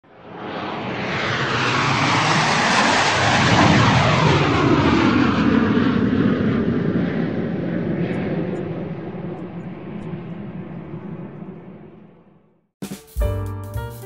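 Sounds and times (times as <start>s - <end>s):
airplane flying overhead: 0.0s - 12.6s.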